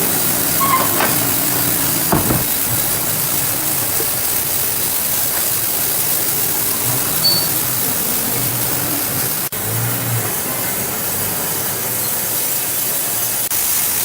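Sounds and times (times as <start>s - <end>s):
loud steady hissing: 0.0s - 14.0s.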